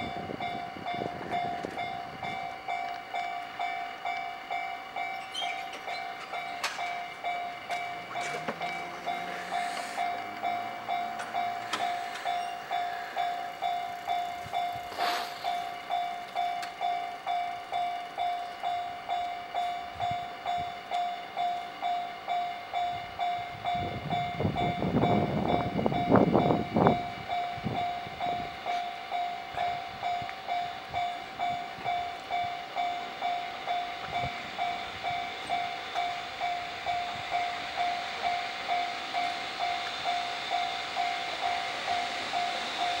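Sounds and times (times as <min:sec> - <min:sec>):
level-crossing warning bell: 0:00.0 - 0:43.0.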